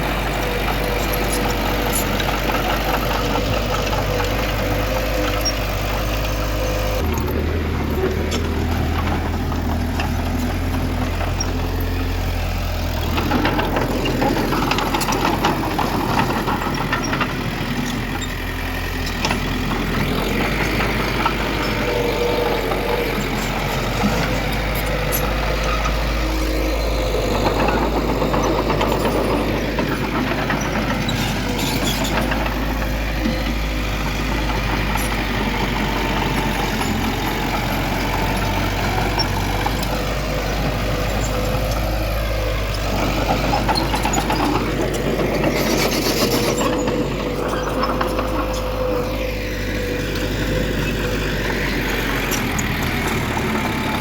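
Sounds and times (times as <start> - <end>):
diesel machinery engines running: 0.0 - 54.0.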